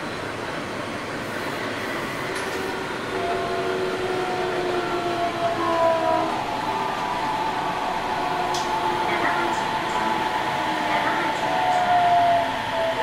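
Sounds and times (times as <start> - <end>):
train wheels rumbling on rails: 0.0 - 13.0
traction motors whining: 1.9 - 13.0.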